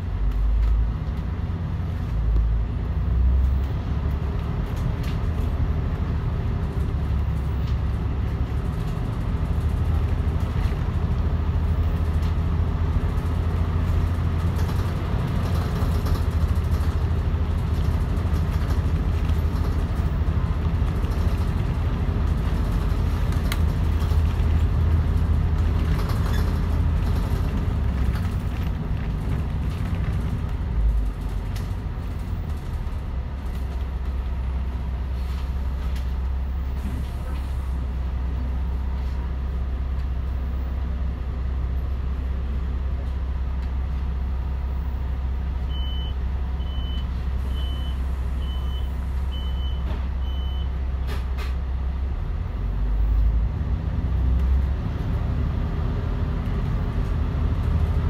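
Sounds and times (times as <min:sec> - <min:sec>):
bus diesel engine hum: 0:00.0 - 0:58.0.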